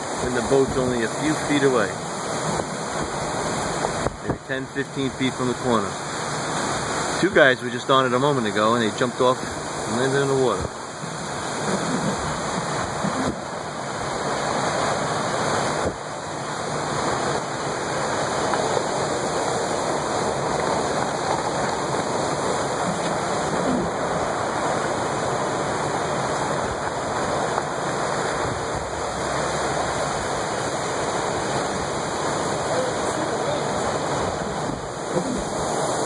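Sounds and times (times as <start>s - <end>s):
rushing flood water: 0.0s - 36.0s
wind-driven rain: 0.0s - 36.0s.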